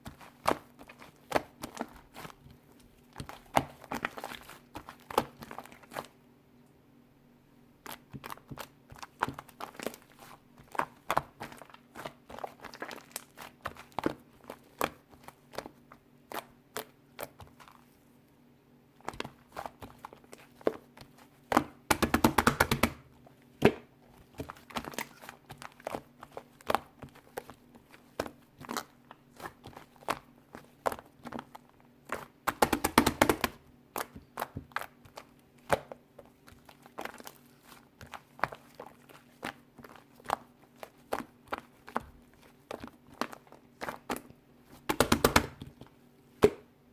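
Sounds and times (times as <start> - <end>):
slime squished by hand: 0.1 - 6.2, 7.8 - 18.0, 19.0 - 46.7.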